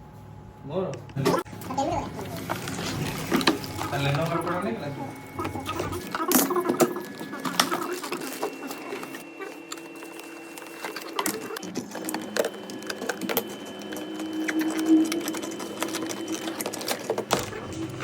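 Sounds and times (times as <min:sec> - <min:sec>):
small motor running: 0:01.5 - 0:18.0.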